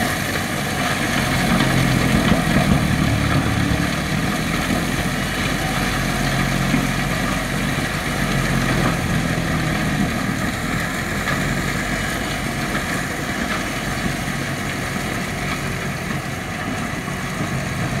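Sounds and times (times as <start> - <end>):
tractor engine droning under load: 0.0 - 18.0.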